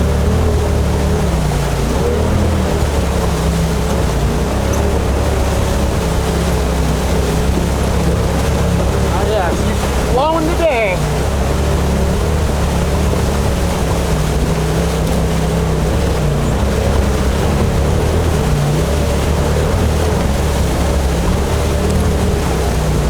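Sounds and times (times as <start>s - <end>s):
engine running: 0.0s - 23.0s
water noise: 0.0s - 23.0s.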